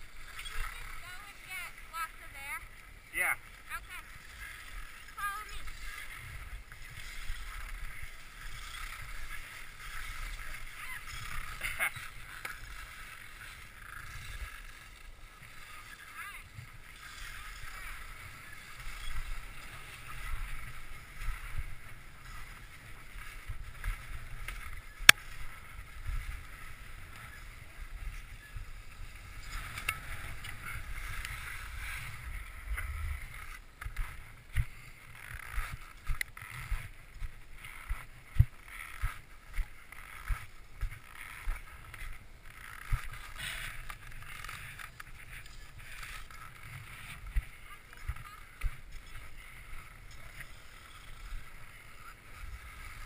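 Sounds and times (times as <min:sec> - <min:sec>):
skis scraping on snow: 0:00.0 - 0:53.0.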